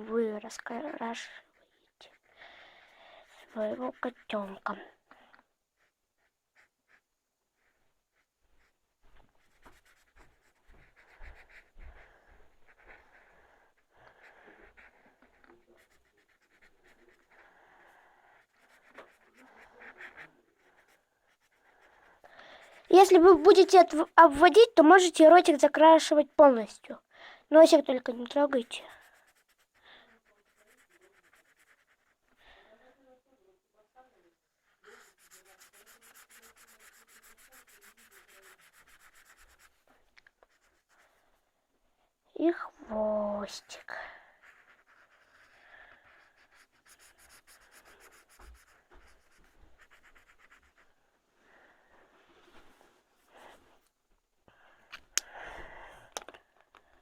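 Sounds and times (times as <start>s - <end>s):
colouring strokes on paper: 0.0s - 5.1s, 5.7s - 26.9s, 27.6s - 32.8s, 34.8s - 41.4s, 42.5s - 51.0s.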